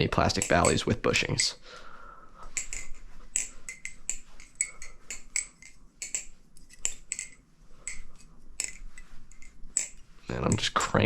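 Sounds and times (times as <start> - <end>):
butterfly knife clacking: 0.3 - 1.6, 2.4 - 10.8.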